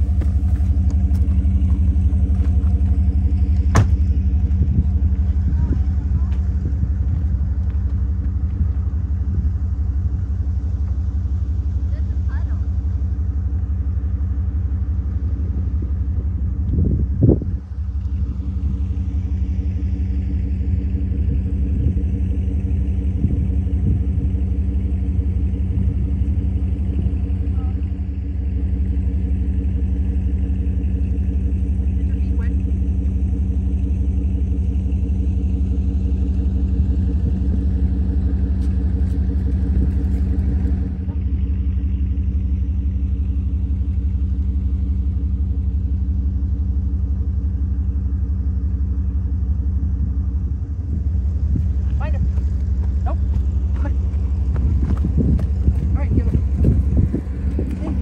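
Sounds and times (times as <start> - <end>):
off-road vehicle rumbling over rocks: 0.0 - 58.0.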